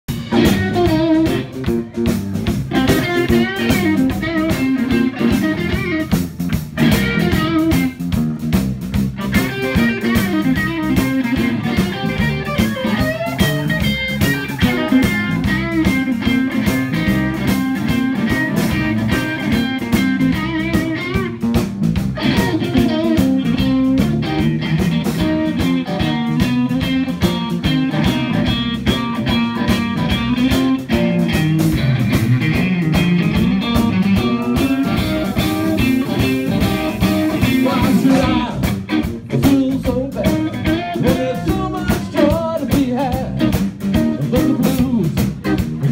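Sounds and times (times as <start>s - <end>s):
drums: 0.0s - 45.9s
electric bass: 0.0s - 45.9s
electric guitar: 0.1s - 45.9s.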